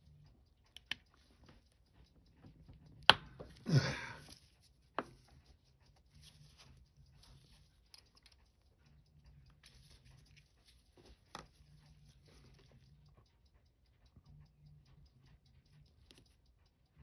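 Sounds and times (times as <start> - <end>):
faint light ticks: 0.0 - 17.0.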